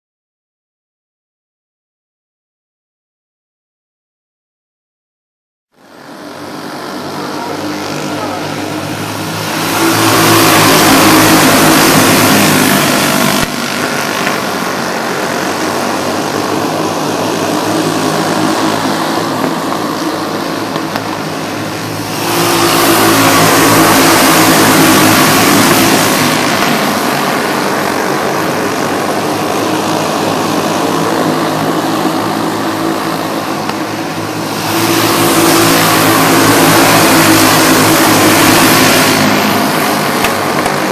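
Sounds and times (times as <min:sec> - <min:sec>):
racing kart engines at high revs: 0:05.8 - 0:40.9.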